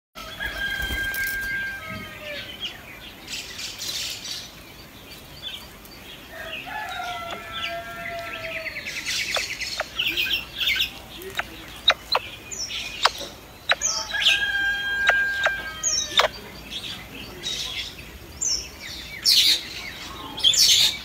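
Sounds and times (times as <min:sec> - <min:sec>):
birds chirping: 0:00.2 - 0:21.0.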